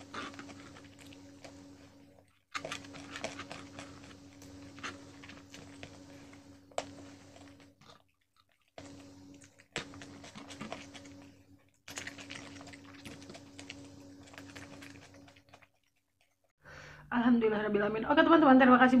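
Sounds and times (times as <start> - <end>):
person chewing crispy food: 0.0 - 16.5.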